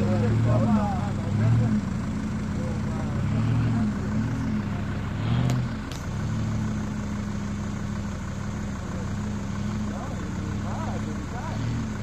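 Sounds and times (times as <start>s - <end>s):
off-road vehicle engine at low revs: 0.0s - 12.0s.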